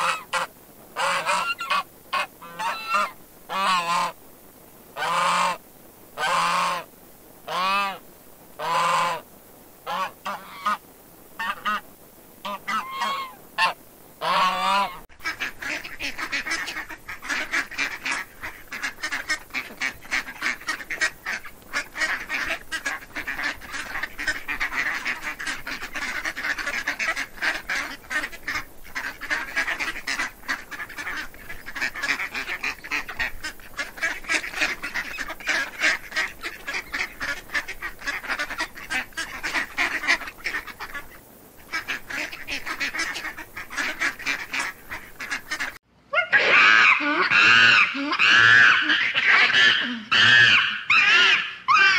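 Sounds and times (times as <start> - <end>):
ducklings peeping: 0.0 - 4.2, 12.5 - 51.9.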